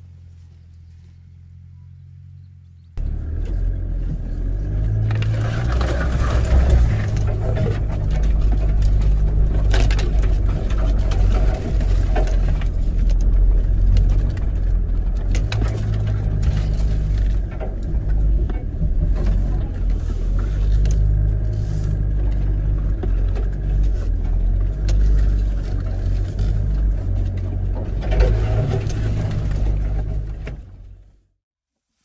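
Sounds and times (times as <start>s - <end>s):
vehicle low rumble: 0.0s - 31.4s
knocks and rattles: 3.0s - 31.0s.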